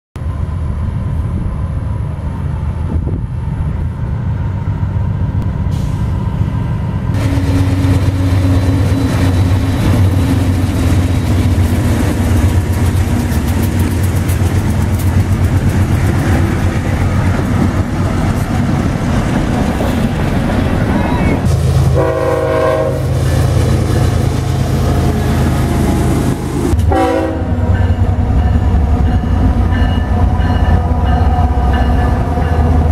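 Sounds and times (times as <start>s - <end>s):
diesel locomotives rumbling: 0.2s - 32.9s
train passing on rails: 0.2s - 32.9s.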